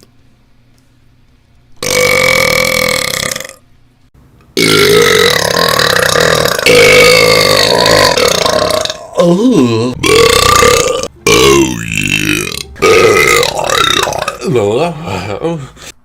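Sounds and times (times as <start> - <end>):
person belching loudly: 1.8 - 3.6, 4.6 - 15.7.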